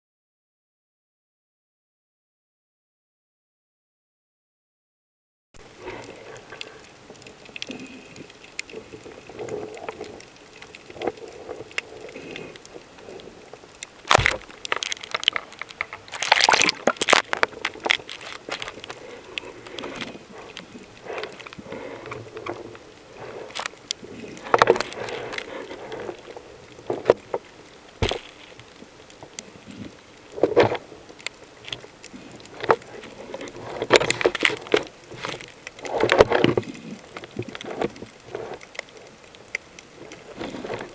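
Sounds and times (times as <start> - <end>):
faint steady crackle: 5.6 - 40.9
underwater bubbling and gurgling: 5.6 - 40.9.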